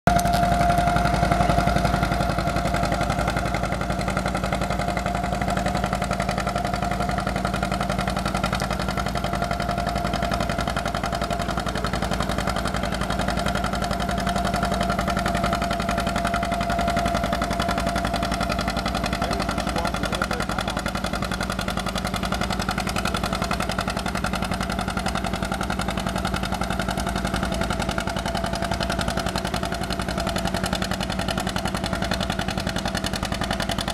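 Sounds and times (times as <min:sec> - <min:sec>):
tractor engine under load: 0:00.1 - 0:33.9.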